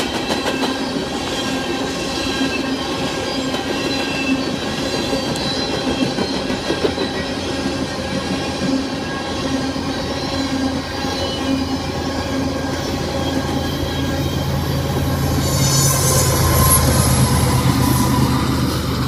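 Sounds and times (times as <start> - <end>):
diesel locomotive drone: 0.0 - 19.0.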